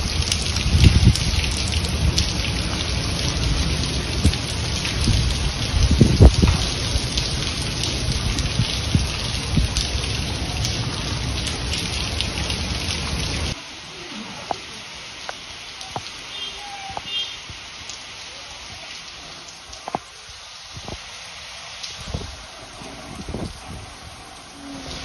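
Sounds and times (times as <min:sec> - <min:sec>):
heavy rain on foliage: 0:00.0 - 0:25.0
raindrops ticking close by: 0:00.0 - 0:25.0.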